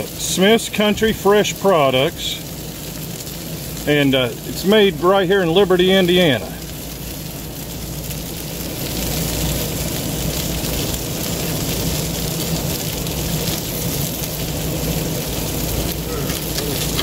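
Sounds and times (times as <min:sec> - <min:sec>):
meat and peppers sizzling on griddle: 0:00.0 - 0:17.0.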